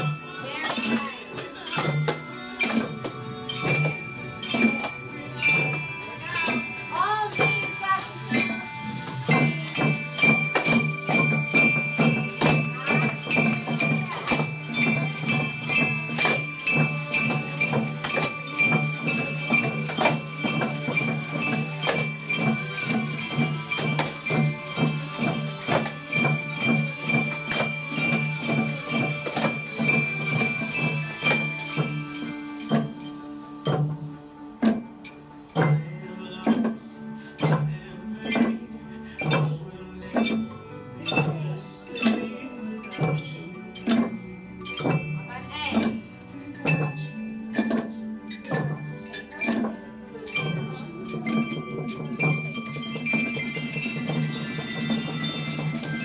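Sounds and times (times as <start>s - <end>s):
children playing percussion: 0.0s - 56.0s
tambourine jingles: 0.0s - 56.0s.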